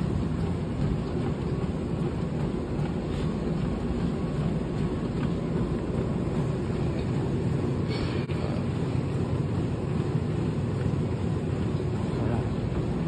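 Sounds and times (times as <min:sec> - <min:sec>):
treadmill motor and belt rumble: 0:00.0 - 0:13.0.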